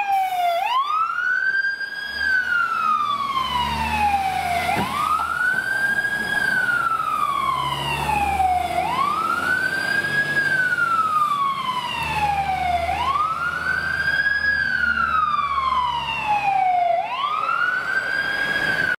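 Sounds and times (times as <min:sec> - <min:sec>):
fire engine siren wailing: 0:00.0 - 0:19.0
diesel truck engine rumble: 0:00.9 - 0:19.0.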